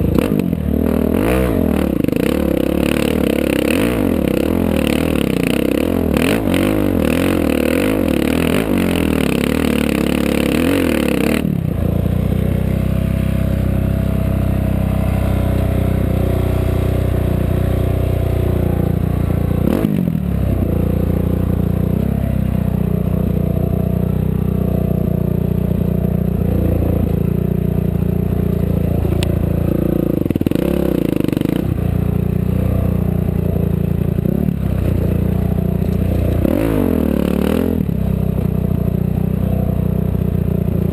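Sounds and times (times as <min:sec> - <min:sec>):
race vehicle engine revving: 0:00.0 - 0:38.4.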